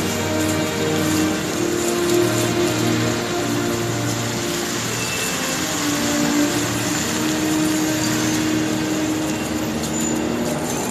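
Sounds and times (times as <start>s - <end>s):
water jets splashing into pool: 0.0s - 10.9s.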